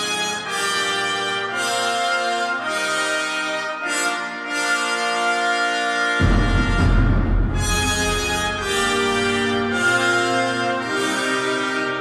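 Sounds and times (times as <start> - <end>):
orchestral music from loudspeakers: 0.0 - 12.0.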